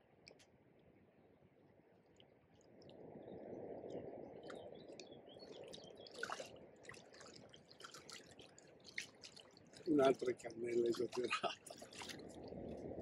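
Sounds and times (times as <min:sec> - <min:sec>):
water sloshing and dripping: 0:02.0 - 0:13.0.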